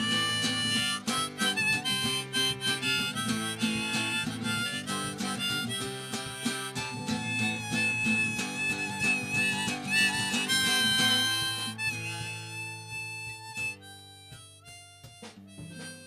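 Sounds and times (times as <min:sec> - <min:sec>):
harmonica held notes: 0:00.0 - 0:16.0
strummed acoustic guitar: 0:00.0 - 0:16.0.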